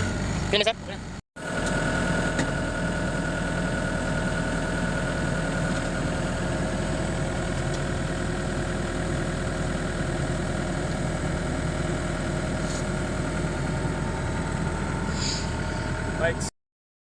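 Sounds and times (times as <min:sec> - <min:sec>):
diesel engine running steadily: 0:00.0 - 0:16.5.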